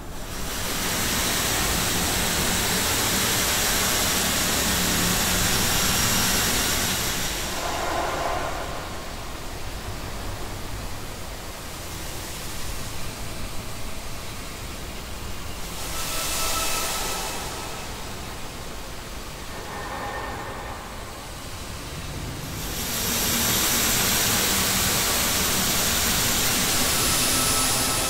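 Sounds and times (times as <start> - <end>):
smooth wash of hiss: 0.0 - 28.0.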